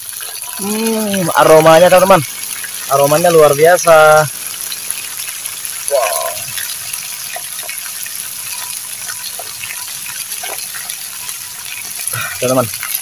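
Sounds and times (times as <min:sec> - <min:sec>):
leaves sizzling in hot oil: 0:00.0 - 0:13.0.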